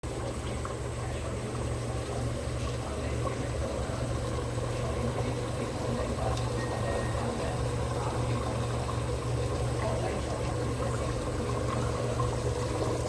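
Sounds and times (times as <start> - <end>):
curry bubbling in a pot: 0.0 - 13.0.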